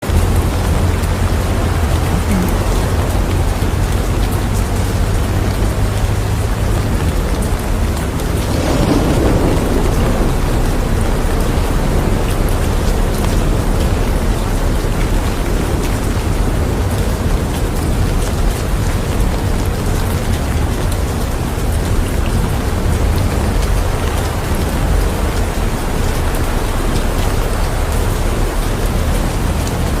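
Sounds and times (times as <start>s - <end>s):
low rumble: 0.0s - 28.4s
heavy rain falling: 0.0s - 30.0s.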